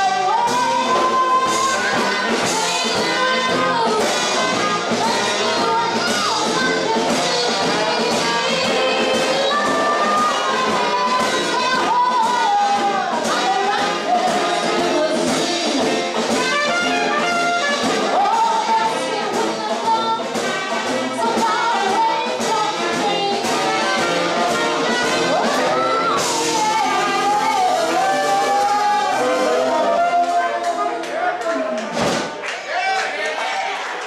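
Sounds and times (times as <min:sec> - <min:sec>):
woman singing: 0:00.0 - 0:30.7.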